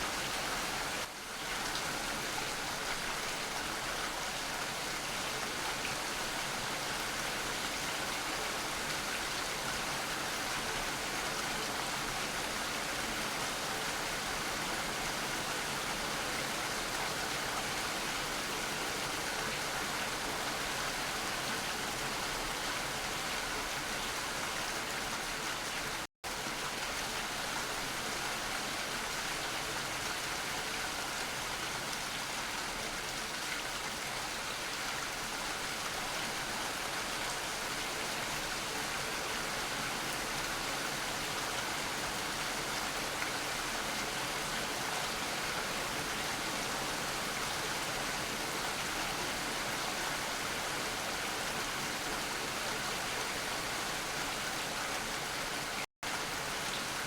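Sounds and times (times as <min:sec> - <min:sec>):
dense rain falling: 0:00.0 - 0:57.0.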